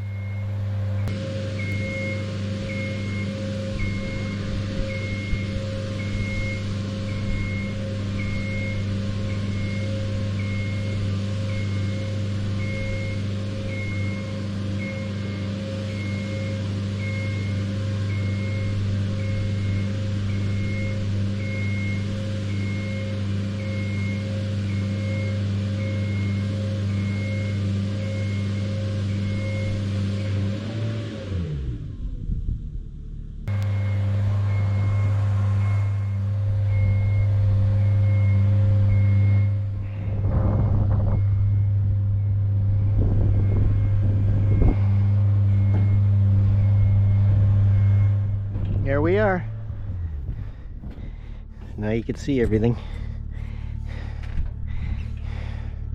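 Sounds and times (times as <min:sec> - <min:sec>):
motion alarm beeping: 0:00.0 - 0:30.6, 0:33.5 - 0:55.9
aerial lift motor running: 0:00.0 - 0:55.9.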